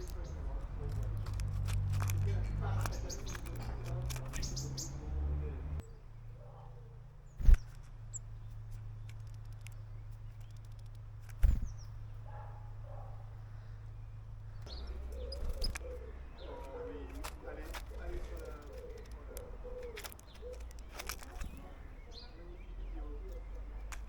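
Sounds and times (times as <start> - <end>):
faint bird chirps: 2.4 - 24.0.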